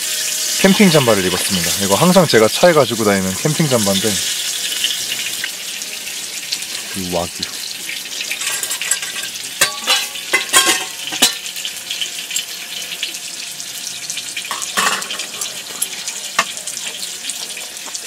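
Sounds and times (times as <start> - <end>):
beef sizzling on a griddle pan: 0.0 - 18.0.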